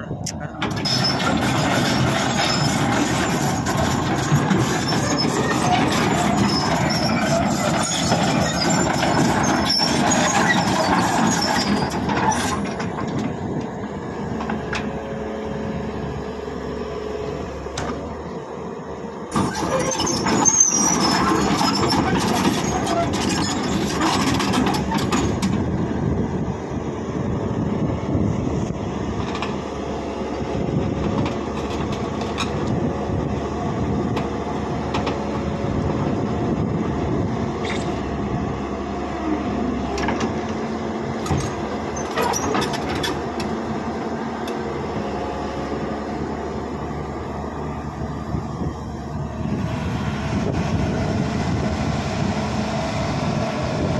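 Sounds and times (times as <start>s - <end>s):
excavator tracks clattering and squealing: 0.0s - 16.0s, 16.6s - 51.8s
excavator engine: 0.0s - 53.9s.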